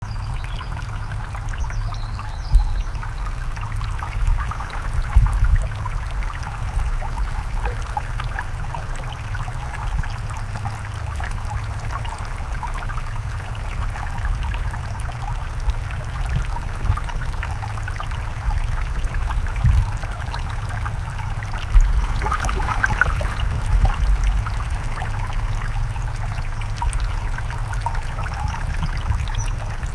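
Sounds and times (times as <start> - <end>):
stream water bubbling: 0.0 - 29.9.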